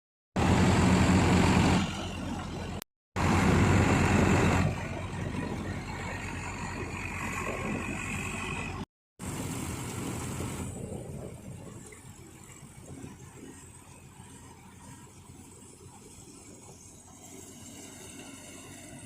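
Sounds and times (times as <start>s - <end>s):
tractor engine running: 0.4s - 19.0s.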